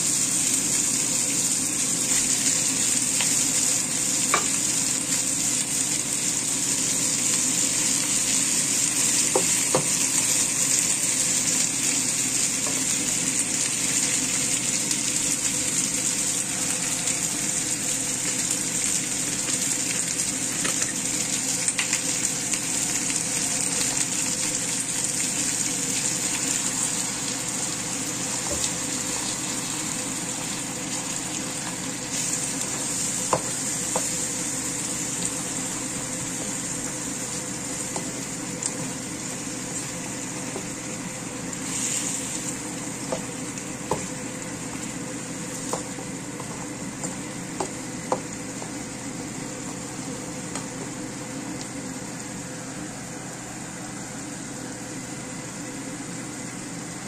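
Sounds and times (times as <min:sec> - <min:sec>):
fish sizzling in a wok: 0:00.0 - 0:57.0.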